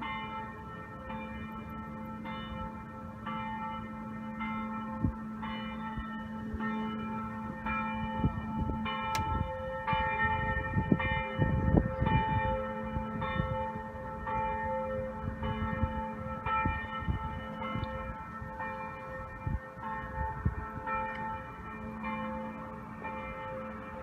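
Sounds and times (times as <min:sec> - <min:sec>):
church bell tolling: 0:00.0 - 0:24.0.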